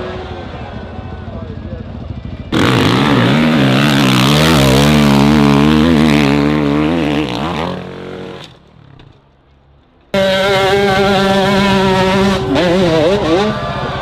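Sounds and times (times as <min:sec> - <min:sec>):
off-road motorcycle engine revving: 0:00.0 - 0:09.1, 0:10.1 - 0:14.0.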